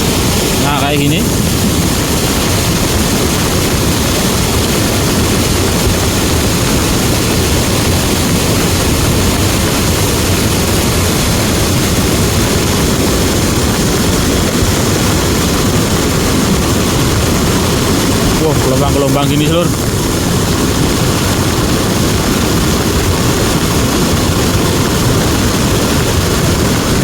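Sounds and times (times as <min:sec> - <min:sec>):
heavy rain: 0:00.0 - 0:27.0
mudflow roaring down a river: 0:00.0 - 0:27.0.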